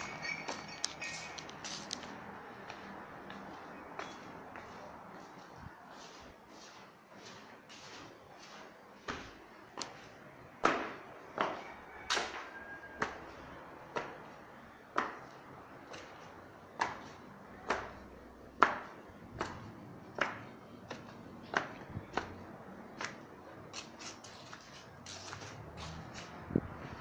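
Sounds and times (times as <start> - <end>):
footsteps on a staircase: 0.4 - 27.0.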